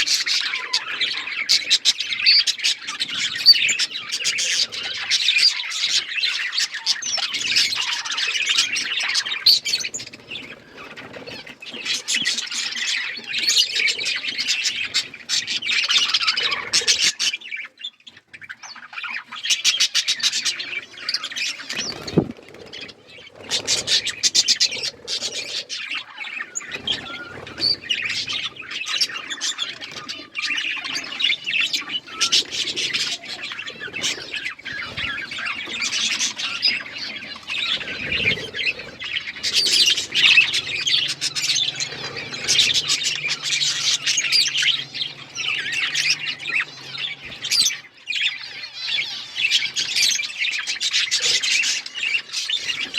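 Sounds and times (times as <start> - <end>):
budgerigars chattering and squawking: 0.0 - 52.9.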